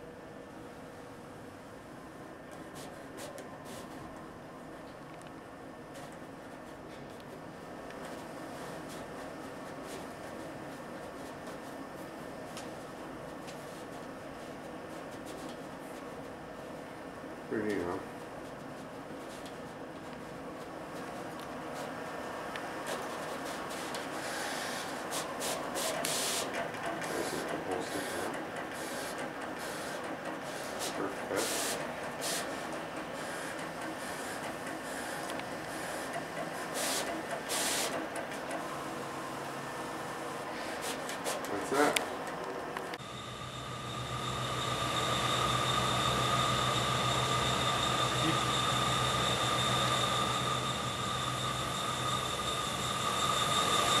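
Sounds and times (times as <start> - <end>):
machine mechanical hum: 0.0 - 54.0
print carriage whirring: 0.0 - 54.0.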